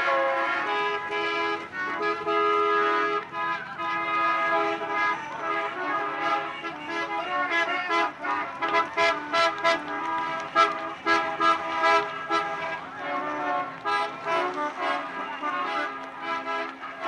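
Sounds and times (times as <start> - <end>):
car horns honking: 0.0 - 17.0
street traffic: 0.0 - 17.0.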